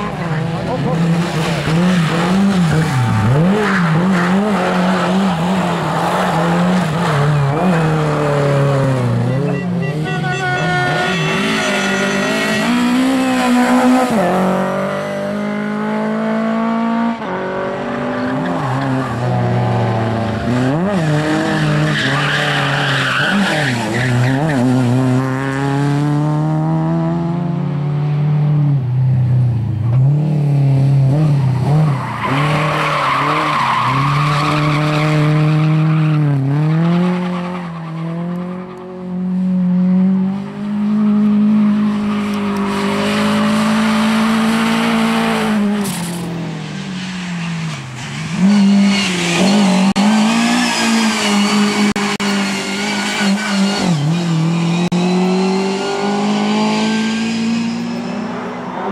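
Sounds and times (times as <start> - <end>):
tyres skidding: 0.0 - 15.8, 17.2 - 25.9, 29.6 - 58.9
rally car engines revving: 0.0 - 58.9.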